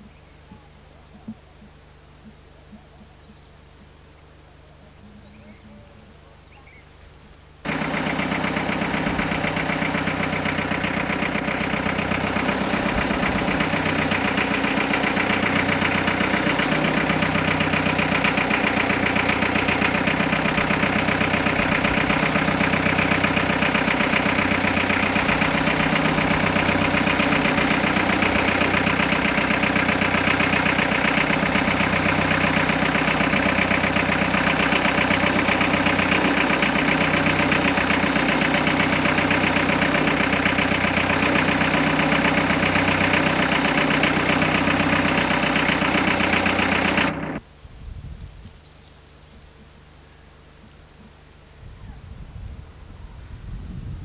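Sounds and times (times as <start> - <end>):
mechanical engine drone: 0.0 - 47.5.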